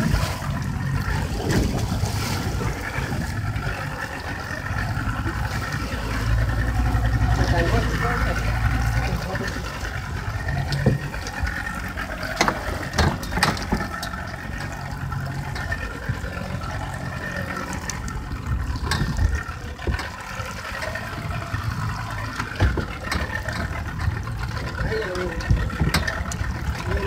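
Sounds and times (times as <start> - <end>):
boat engine idling: 0.0 - 27.0
rush of wind and water: 0.0 - 27.0.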